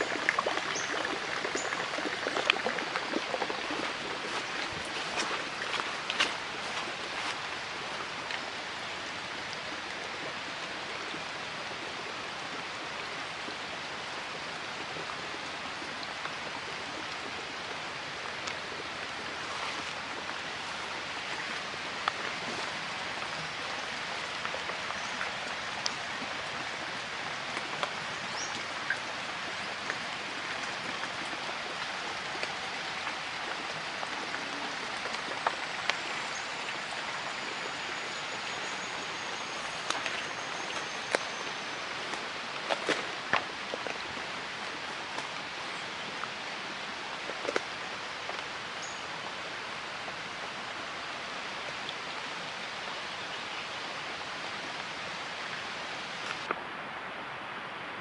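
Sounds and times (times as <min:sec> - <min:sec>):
faint drip-like ticks: 0:00.0 - 0:56.6
water trickling in a channel: 0:00.0 - 0:56.6.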